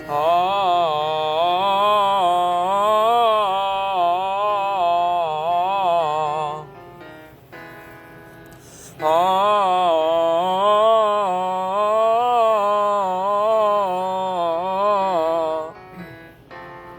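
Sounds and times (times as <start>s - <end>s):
person singing vocal exercise: 0.0s - 6.9s, 8.6s - 16.3s.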